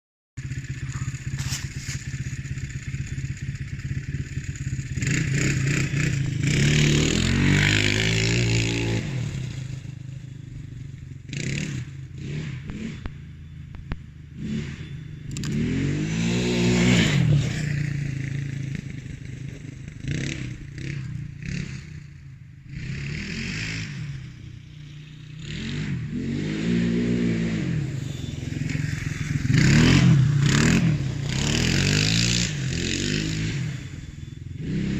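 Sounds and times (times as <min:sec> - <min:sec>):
quad engine revving: 0:00.4 - 0:34.9.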